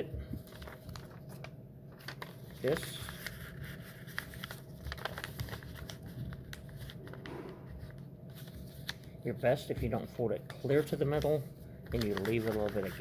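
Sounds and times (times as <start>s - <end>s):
paper crinkling and rustling: 0.2s - 13.0s.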